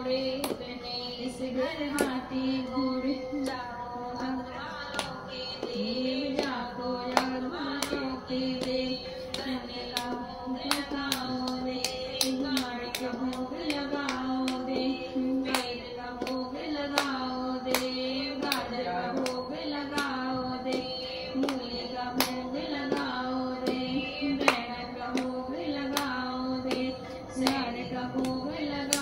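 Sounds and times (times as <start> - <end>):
woman and children singing: 0.0 - 29.0
hand claps keeping time: 0.1 - 29.0.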